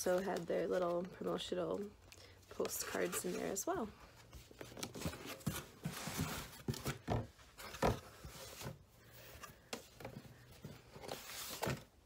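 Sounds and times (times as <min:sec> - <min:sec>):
rustling and scraping packaging: 0:00.0 - 0:12.0.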